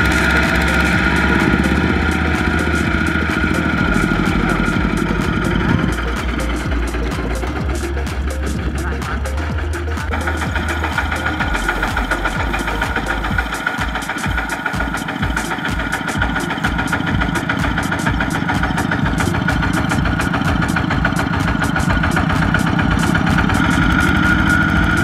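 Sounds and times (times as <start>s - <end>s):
diesel engine chugging: 0.0s - 25.0s.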